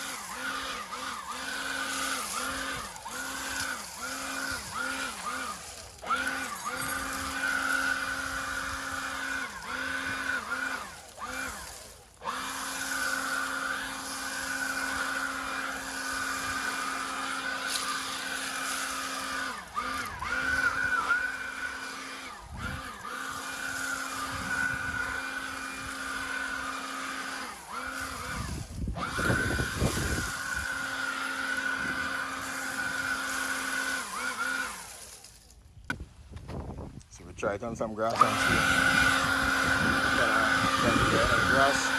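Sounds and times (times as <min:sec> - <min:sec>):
leaf blower whine: 0:00.0 - 0:41.9
rough blower noise burst: 0:00.0 - 0:41.9.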